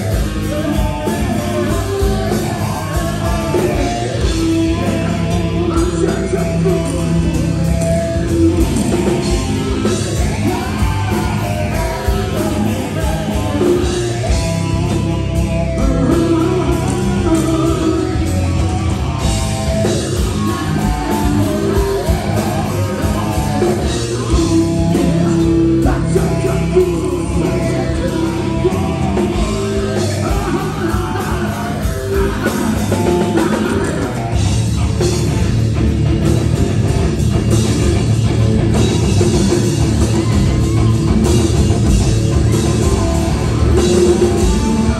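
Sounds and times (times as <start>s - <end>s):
person singing: 0.0s - 34.5s, 39.2s - 44.9s
rock band playing: 0.0s - 44.9s.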